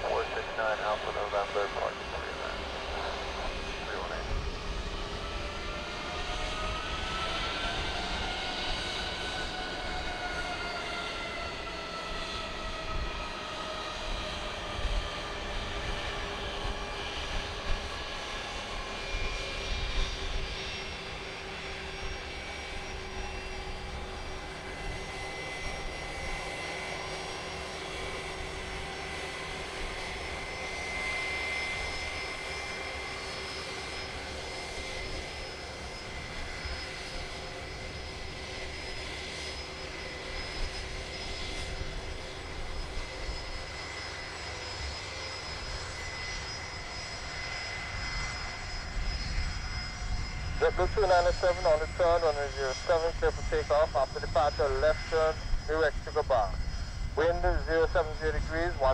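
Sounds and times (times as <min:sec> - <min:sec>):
jet engines whining at taxi power: 0:00.0 - 0:58.9.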